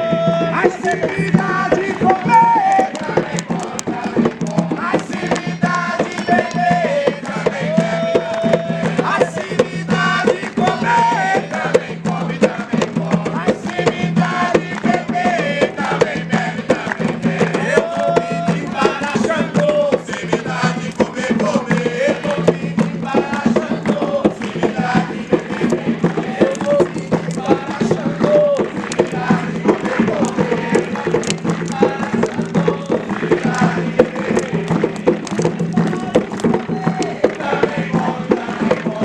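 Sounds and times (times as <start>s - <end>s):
fast drums and rattles: 0.0s - 39.0s
person singing a chant: 0.0s - 39.0s.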